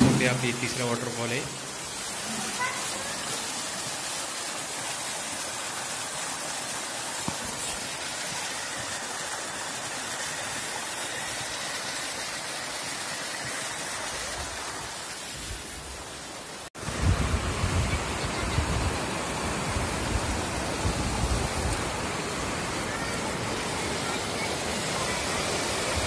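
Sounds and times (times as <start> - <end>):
small waterfall splashing into pool: 0.0 - 26.0.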